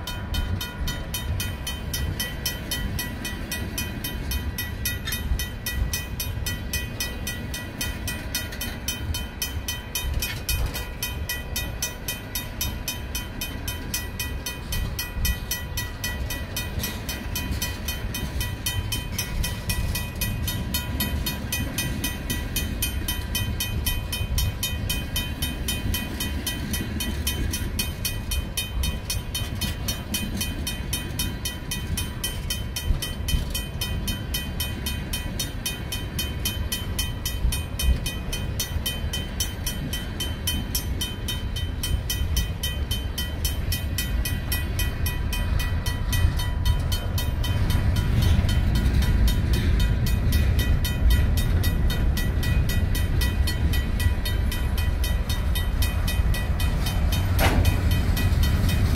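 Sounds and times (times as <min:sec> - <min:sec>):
crossing bell ringing: 0:00.0 - 0:58.9
train wheels rumbling on rail: 0:00.0 - 0:58.9.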